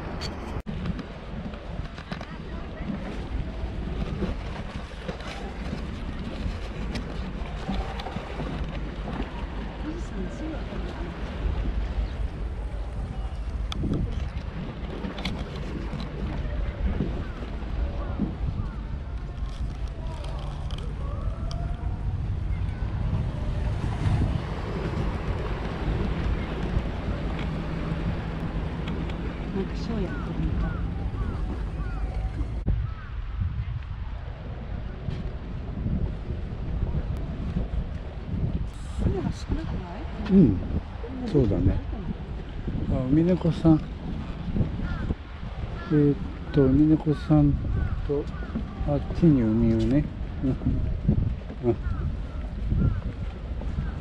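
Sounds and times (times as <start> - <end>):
faint harbour background noise: 0.0 - 54.0
wind buffeting microphone: 0.0 - 54.0.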